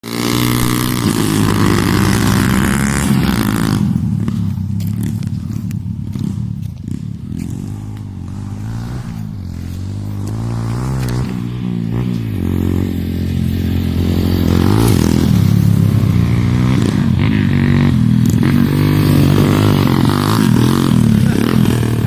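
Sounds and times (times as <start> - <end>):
motocross motorcycle engine revving: 0.0 - 22.0.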